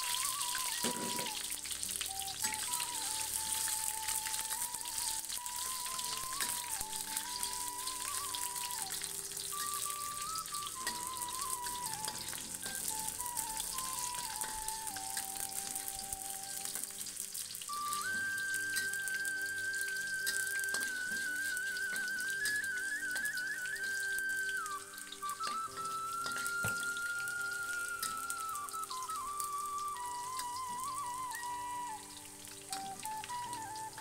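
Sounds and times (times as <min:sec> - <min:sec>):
background music melody: 0:00.0 - 0:34.0
oil sizzling in a wok: 0:00.0 - 0:34.0.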